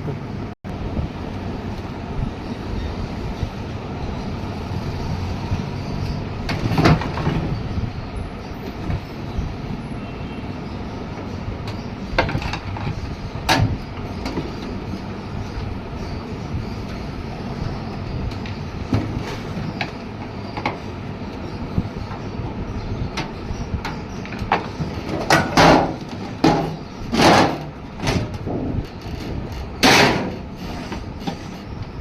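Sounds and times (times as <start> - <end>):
steady rumbling: 0.0 - 32.0.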